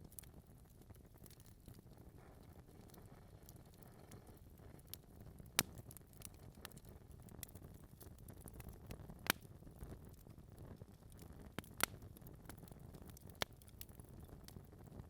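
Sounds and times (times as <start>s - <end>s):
fire rumbling in fireplace: 0.0s - 15.0s
log crackles and pops: 0.0s - 15.0s.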